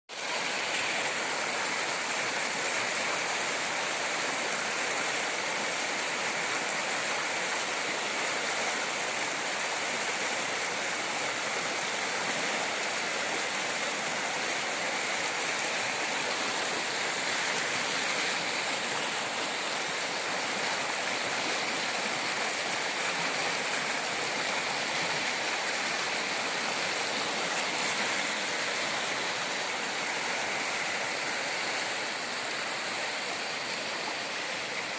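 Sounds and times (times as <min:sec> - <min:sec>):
turbulent stream water rushing: 0:00.1 - 0:34.9.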